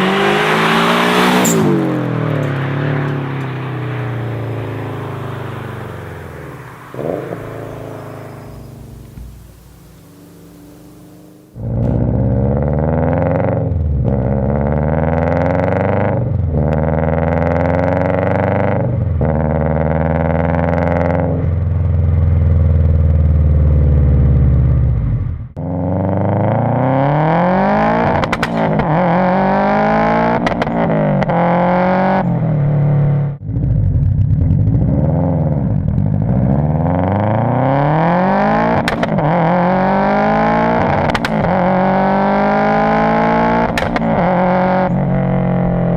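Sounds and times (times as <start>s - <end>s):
exhaust cracks: 0.0s - 45.9s
turbocharged car engine accelerating: 0.0s - 45.9s.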